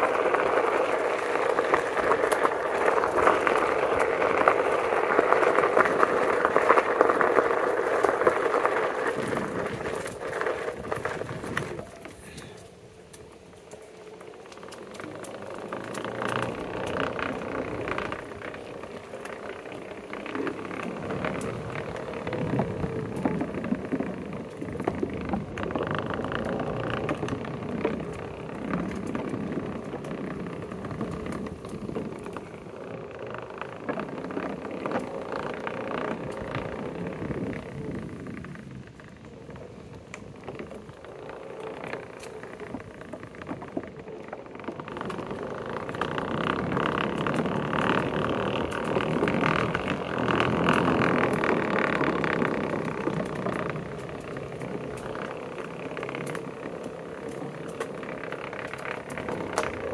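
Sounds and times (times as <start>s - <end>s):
tyre rumbling over wooden boards: 0.0s - 59.9s.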